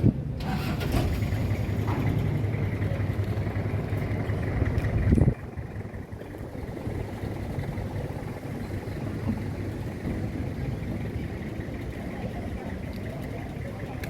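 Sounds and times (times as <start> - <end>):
low rumble of traffic: 0.0 - 14.0
vehicle engine close by: 0.0 - 14.0.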